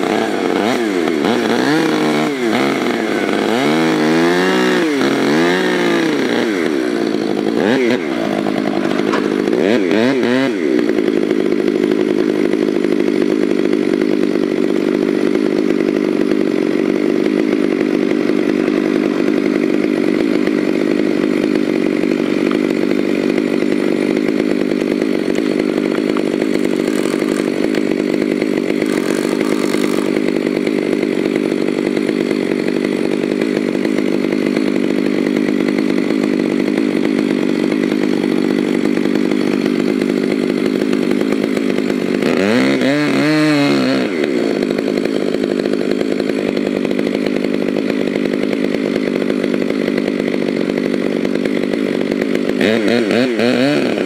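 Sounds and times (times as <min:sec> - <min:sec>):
chainsaw revving and cutting: 0:00.0 - 0:54.0.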